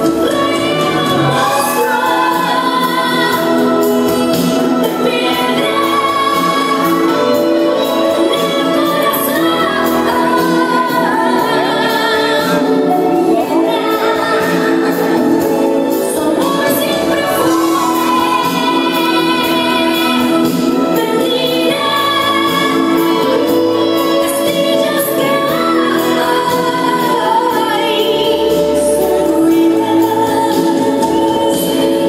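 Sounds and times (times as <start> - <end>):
loud backing music: 0.0 - 32.0.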